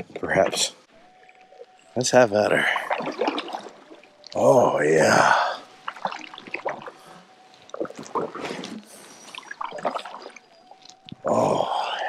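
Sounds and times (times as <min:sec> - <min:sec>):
water dripping off paddle: 0:01.1 - 0:11.7
kayak paddle splashing: 0:01.2 - 0:11.3.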